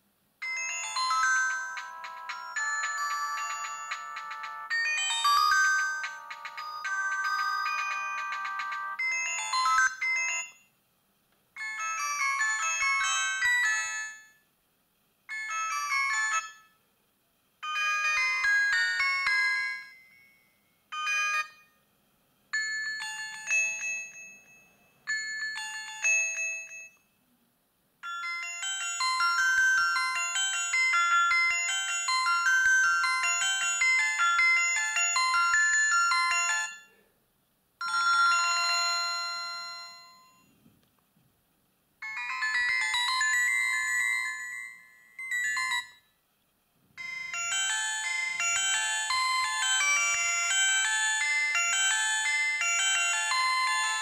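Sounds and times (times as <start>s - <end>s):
phone ringtone melodies: 0.4s - 10.8s, 11.6s - 14.4s, 15.3s - 16.8s, 17.6s - 21.8s, 22.6s - 27.0s, 28.0s - 37.0s, 37.8s - 40.6s, 42.0s - 46.1s, 47.0s - 54.0s.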